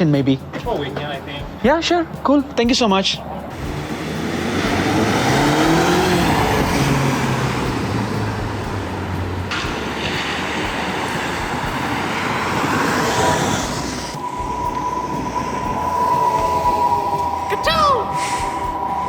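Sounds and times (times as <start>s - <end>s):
road traffic rushing: 0.0s - 19.0s
rising and falling tone: 3.5s - 19.0s.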